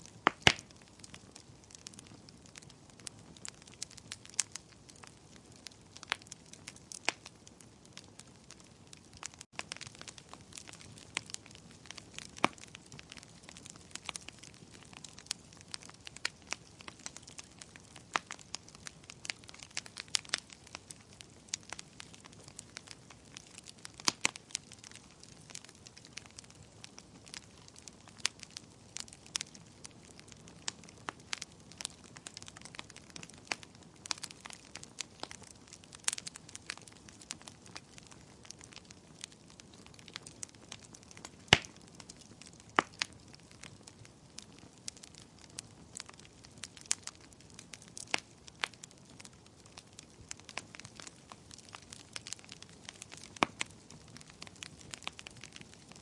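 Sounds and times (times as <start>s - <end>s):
bonfire popping and snapping: 0.0s - 56.0s.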